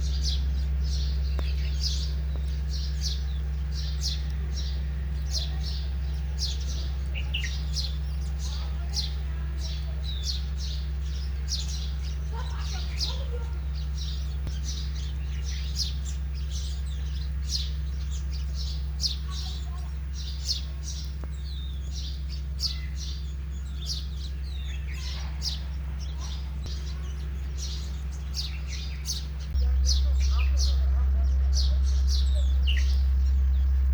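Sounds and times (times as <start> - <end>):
sparrows chirping: 0.0 - 33.9
steady low hum: 0.0 - 33.9.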